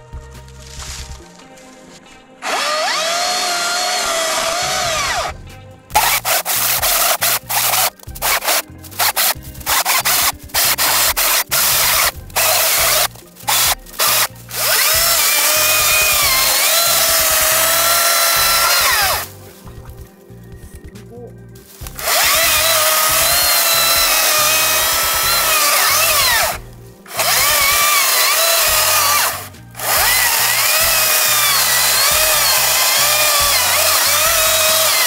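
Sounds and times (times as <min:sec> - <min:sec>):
chainsaw cutting stems: 0:00.4 - 0:20.0, 0:21.6 - 0:35.0.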